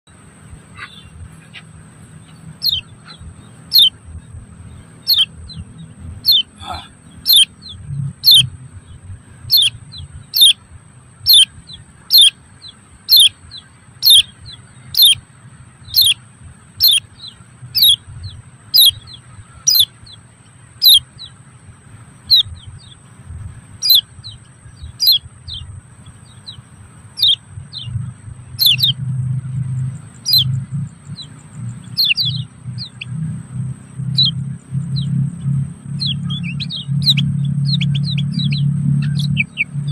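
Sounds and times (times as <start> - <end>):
bird chirping: 0.1 - 39.9.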